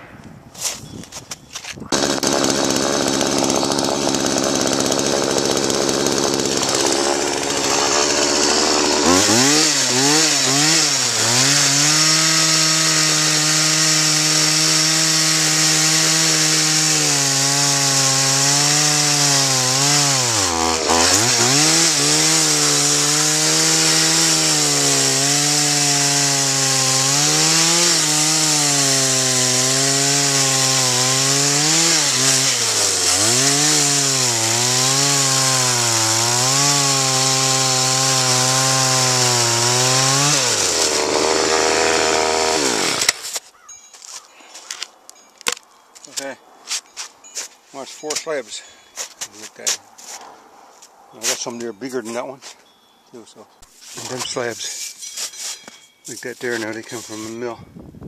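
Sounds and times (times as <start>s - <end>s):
chainsaw cutting wood: 1.6s - 48.3s, 53.9s - 57.4s.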